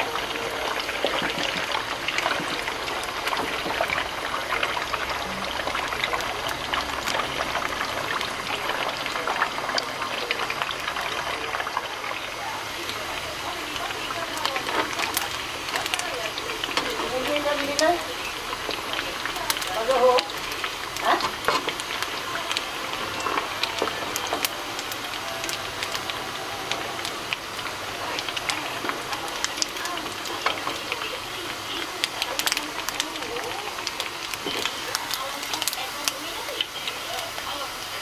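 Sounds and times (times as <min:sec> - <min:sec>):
deep-frying oil sizzling: 0:00.0 - 0:38.0.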